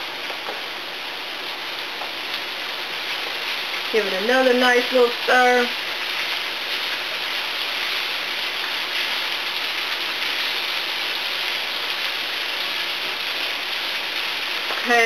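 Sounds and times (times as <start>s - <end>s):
vegetables sizzling in frying pan: 0.0s - 15.0s.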